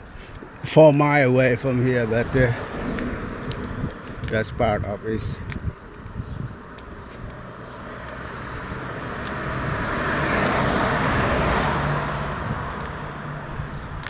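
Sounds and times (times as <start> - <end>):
car passing: 0.3 - 14.0.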